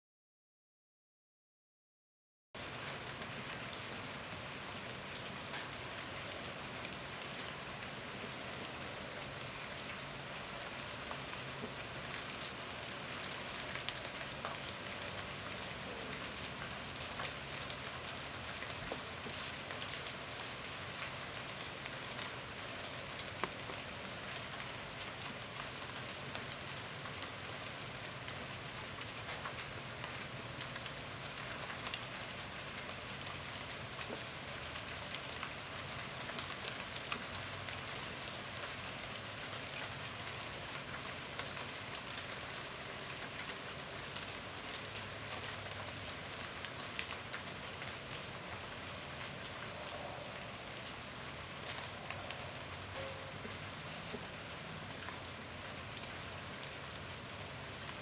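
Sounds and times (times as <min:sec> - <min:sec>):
steady rain falling: 0:02.6 - 0:58.0.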